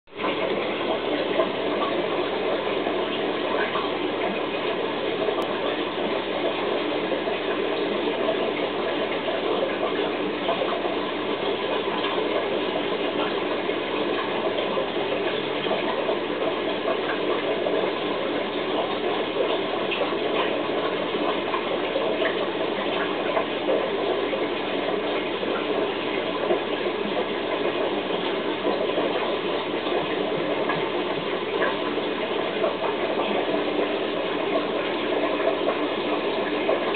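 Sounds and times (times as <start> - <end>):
aquarium water rushing: 0.1 - 36.9.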